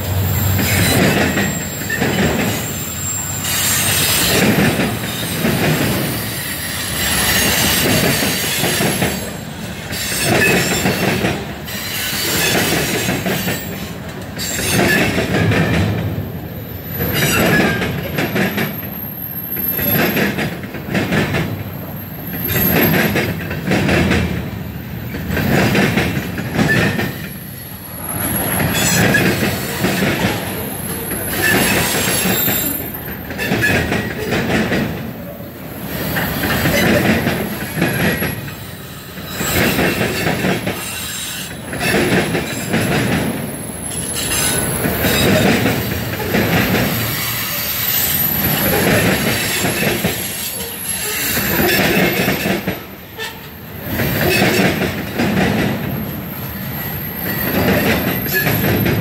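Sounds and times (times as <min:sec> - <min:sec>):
train wheels clattering over rail joints: 0:00.0 - 0:35.2, 0:35.8 - 0:59.0
high wheel squeal: 0:00.2 - 0:15.2, 0:16.7 - 0:20.4, 0:21.7 - 0:23.2, 0:26.5 - 0:34.4, 0:36.0 - 0:42.8, 0:43.4 - 0:54.8, 0:55.8 - 0:59.0.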